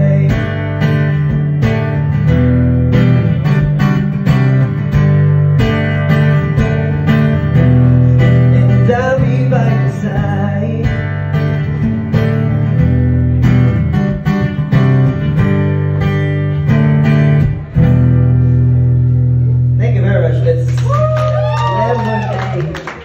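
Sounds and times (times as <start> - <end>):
acoustic guitar strumming: 0.0 - 20.4.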